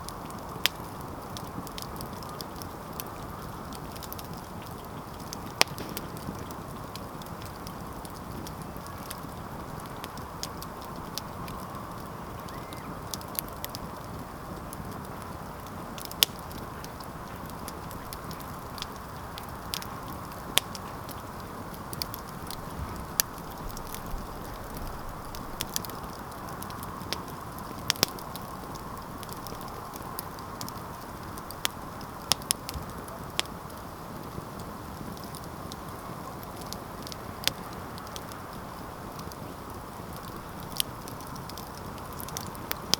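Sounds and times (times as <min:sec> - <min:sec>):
campfire crackling and popping: 0:00.0 - 0:42.9
low hiss of burning: 0:00.0 - 0:42.9.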